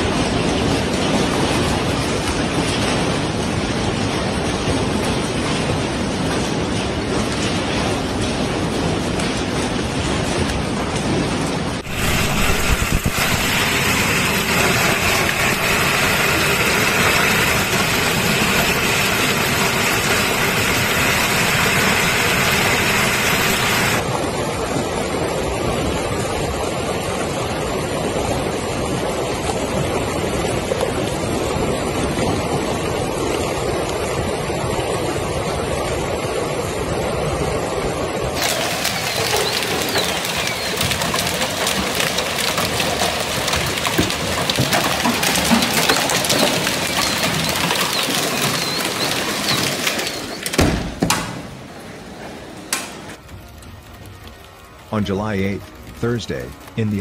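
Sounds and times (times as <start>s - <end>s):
hail and rain pelting down: 0.0s - 57.0s.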